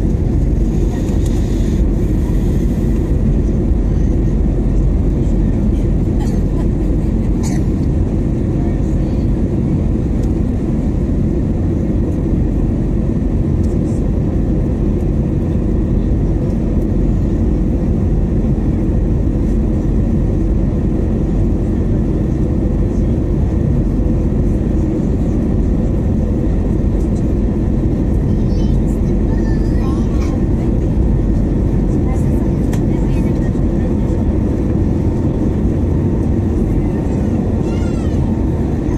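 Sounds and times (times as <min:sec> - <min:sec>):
jet engine and airflow roar: 0:00.0 - 0:38.9.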